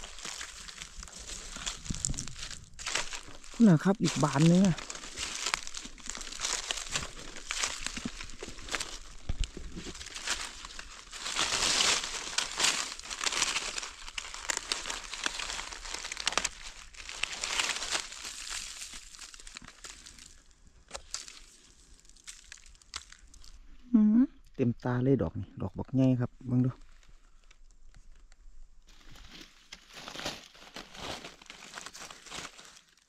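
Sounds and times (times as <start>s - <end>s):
dry leaves rustling and crackling: 0.0s - 23.6s, 28.9s - 33.0s.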